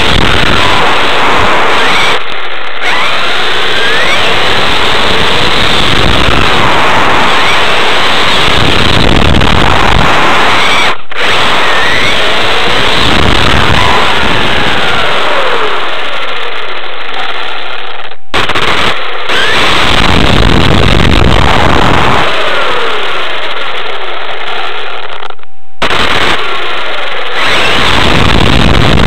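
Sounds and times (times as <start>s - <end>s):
electric motor whine: 0.0s - 29.0s
rc car rushing over ground: 0.0s - 29.0s.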